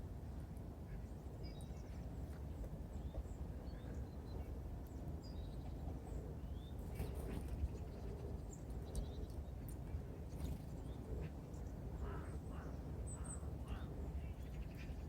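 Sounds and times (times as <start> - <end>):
songbirds chirping: 0.8 - 15.0.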